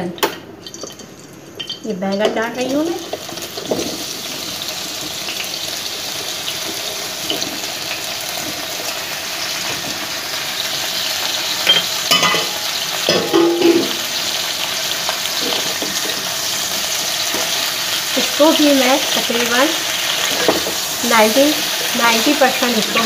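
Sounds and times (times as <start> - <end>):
eggplant sizzling in a pan: 0.0 - 23.0.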